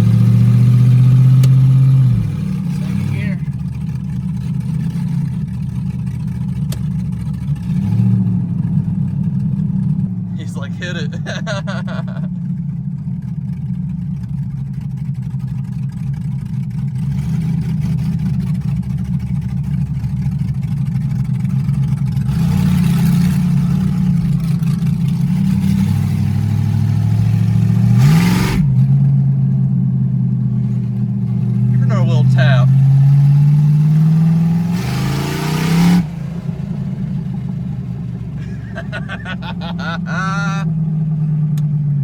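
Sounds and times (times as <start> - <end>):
car engine running under load: 0.0 - 42.0.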